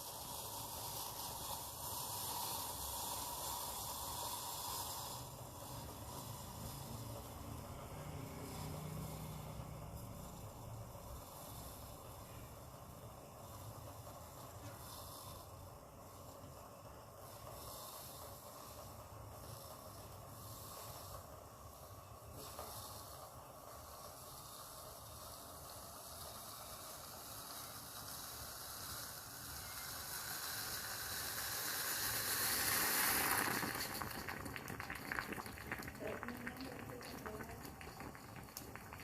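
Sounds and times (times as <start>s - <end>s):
moka pot hissing: 0.0s - 39.0s
moka pot sputtering: 0.0s - 39.0s.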